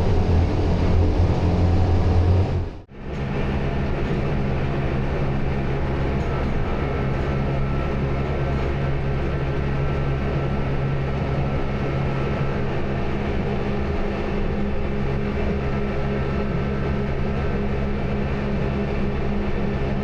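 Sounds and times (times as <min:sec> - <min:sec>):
train running hum: 0:00.0 - 0:20.0.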